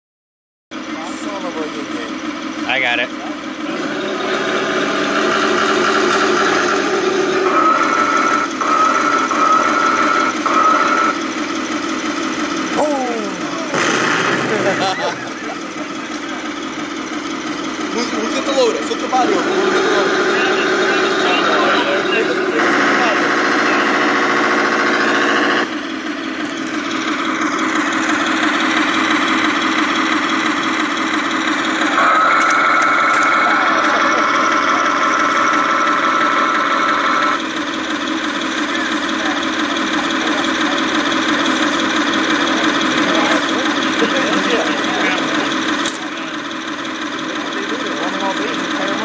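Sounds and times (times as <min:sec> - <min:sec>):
hydraulic pump whirring: 0:00.7 - 0:49.0
model vehicle engines droning: 0:00.7 - 0:49.0
high-pitched whine: 0:01.0 - 0:49.0.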